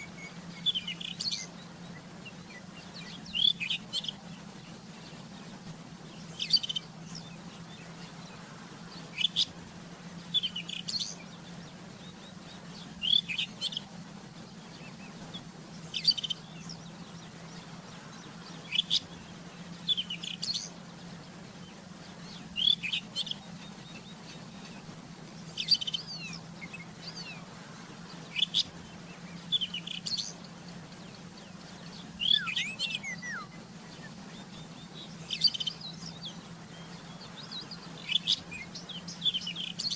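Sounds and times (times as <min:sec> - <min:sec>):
bird singing: 0:00.0 - 0:39.9
steady low hum: 0:00.0 - 0:39.9.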